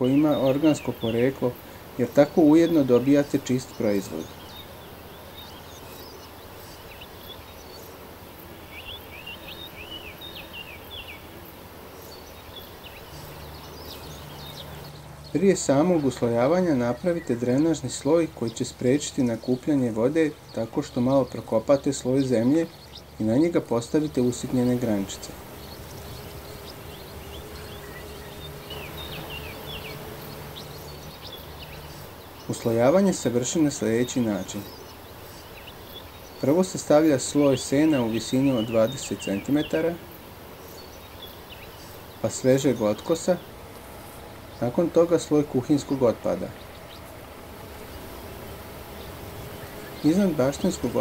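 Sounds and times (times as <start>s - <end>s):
small bird chirping: 0.0s - 8.0s, 8.6s - 51.0s
faint steady hiss: 0.0s - 51.0s
flying insect buzzing: 0.0s - 51.0s.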